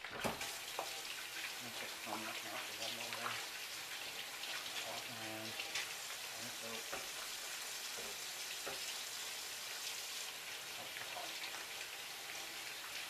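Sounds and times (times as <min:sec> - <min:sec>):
meatballs sizzling in a frying pan: 0:00.0 - 0:13.0.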